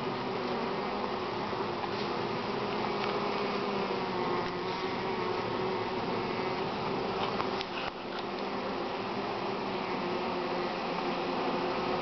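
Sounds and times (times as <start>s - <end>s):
bee swarm buzzing: 0.0s - 12.0s.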